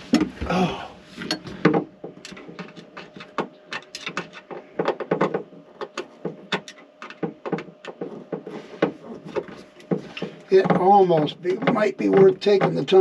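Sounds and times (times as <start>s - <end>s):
tools clicking and knocking: 1.3s - 13.0s.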